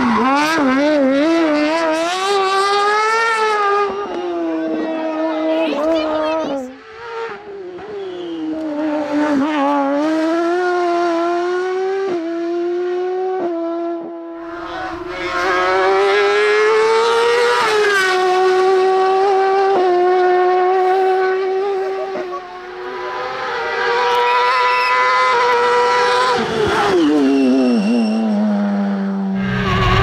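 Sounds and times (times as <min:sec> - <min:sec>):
racing car engine at high revs: 0:00.0 - 0:30.0.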